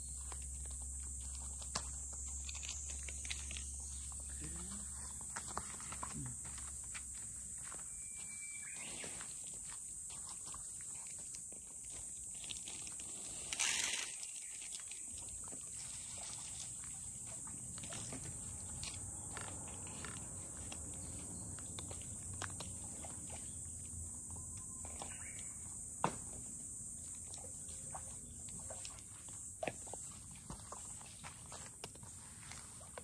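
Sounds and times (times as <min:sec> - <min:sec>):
high insect chorus: 0:00.0 - 0:33.0.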